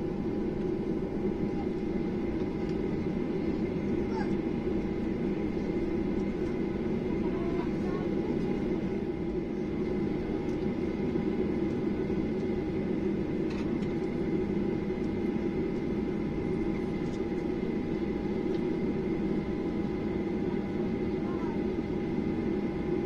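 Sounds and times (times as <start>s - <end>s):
jet engines humming: 0.0s - 23.0s.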